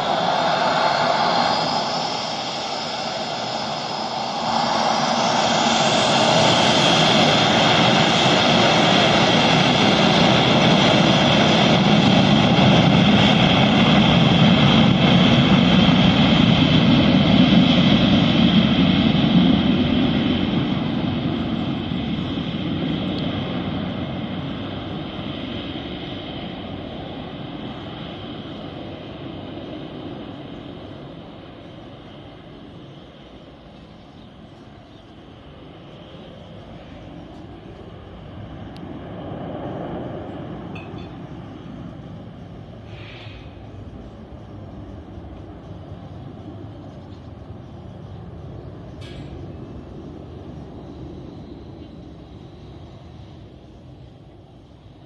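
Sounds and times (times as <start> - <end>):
jet engines roaring with whine: 0.0 - 55.0.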